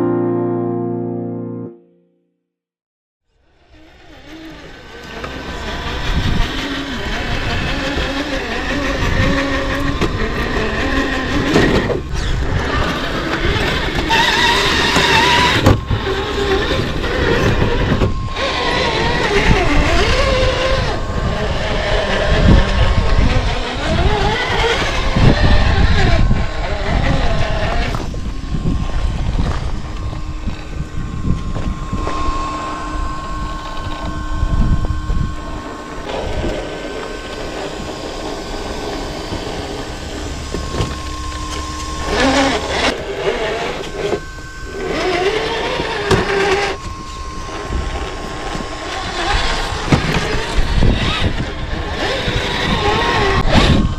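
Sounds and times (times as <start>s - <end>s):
electric motor whining: 3.4s - 53.9s
wheels scraping on ground: 3.7s - 53.8s.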